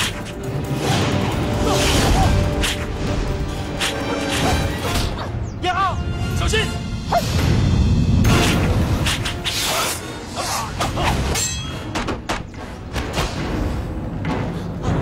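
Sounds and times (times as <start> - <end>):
low rumbling dramatic music: 0.0 - 15.0.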